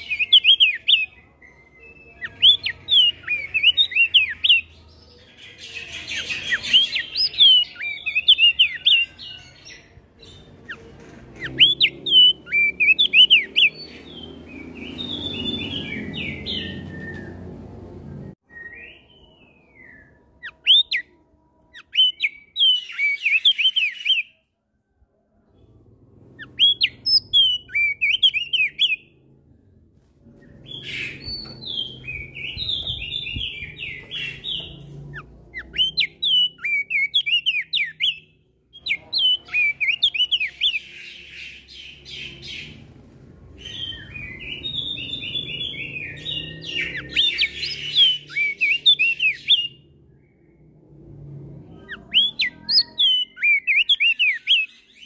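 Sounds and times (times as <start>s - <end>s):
bird chirping and whistling: 0.0s - 4.8s, 5.7s - 10.8s, 11.4s - 17.5s, 18.4s - 21.1s, 21.7s - 24.3s, 26.4s - 29.1s, 30.4s - 42.8s, 43.6s - 49.8s, 51.8s - 55.0s.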